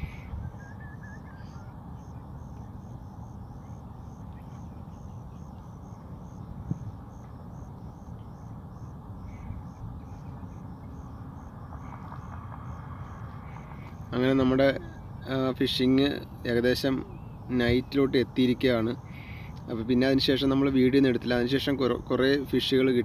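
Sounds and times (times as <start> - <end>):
insect chirping: 0.0 - 23.0
low outdoor rumble: 0.0 - 23.0.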